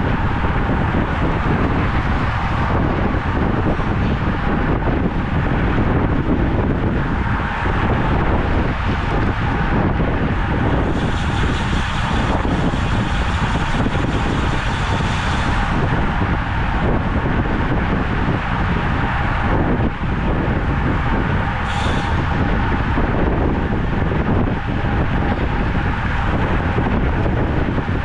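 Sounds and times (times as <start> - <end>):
bicycle road noise: 0.0 - 28.0
wind rushing over microphone: 0.0 - 28.0.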